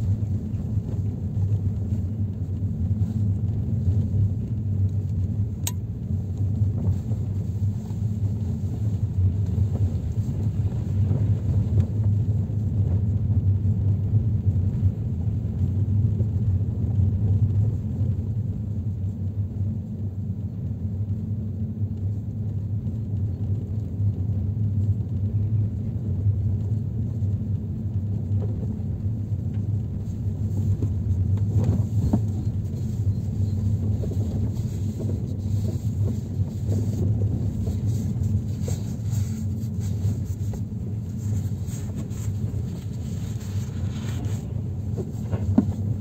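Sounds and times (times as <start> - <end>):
vehicle road and wind noise: 0.0 - 46.0.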